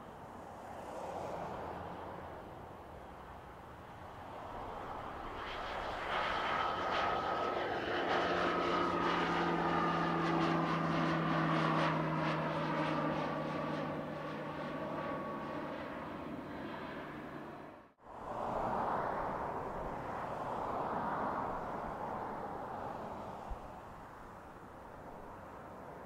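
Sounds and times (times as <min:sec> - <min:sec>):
airplane engines passing: 0:00.0 - 0:26.0.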